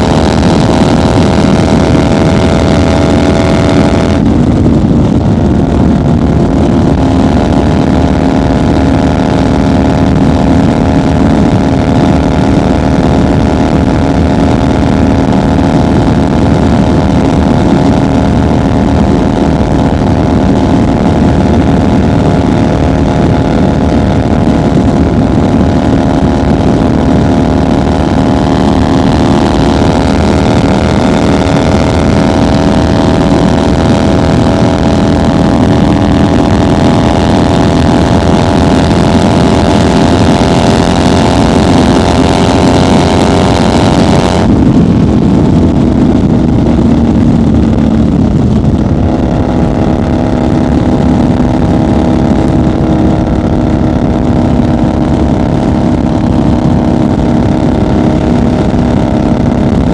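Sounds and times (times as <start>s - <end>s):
motorcycle engine at highway speed: 0.0s - 59.9s
wind and road rush: 0.0s - 59.9s.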